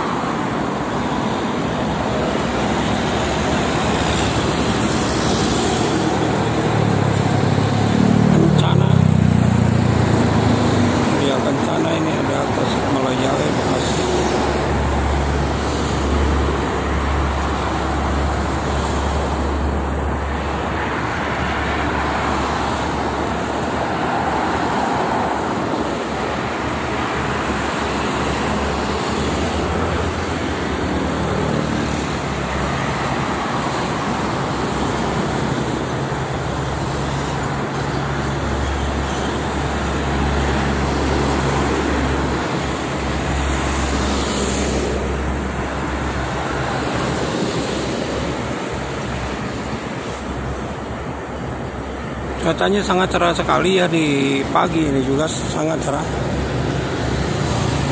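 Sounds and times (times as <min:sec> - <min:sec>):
motorway traffic roar: 0:00.0 - 0:57.9
vehicles passing: 0:00.0 - 0:57.9.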